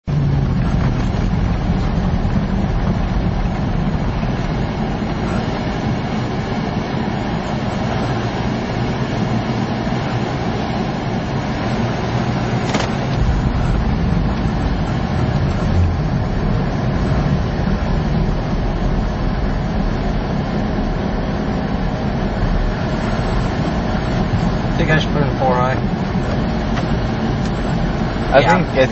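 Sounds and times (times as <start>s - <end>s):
road rumble: 0.0s - 28.9s
vehicle engine drone: 0.0s - 28.9s.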